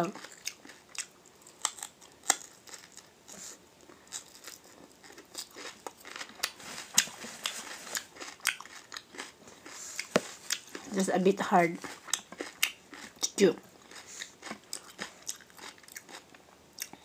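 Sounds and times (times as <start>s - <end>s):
person chewing crunchy food: 0.1s - 17.0s.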